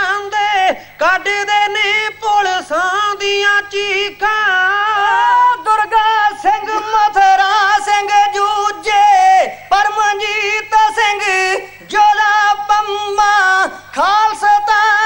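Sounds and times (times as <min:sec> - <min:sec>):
men chanting verse unaccompanied: 0:00.0 - 0:15.0.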